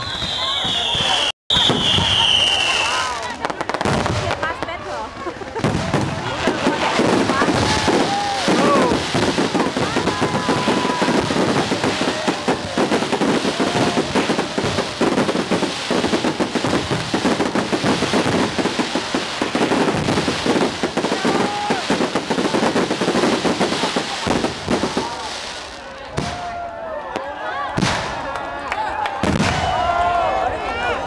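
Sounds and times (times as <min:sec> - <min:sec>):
fireworks popping and crackling: 0:00.0 - 0:28.4, 0:29.2 - 0:29.9.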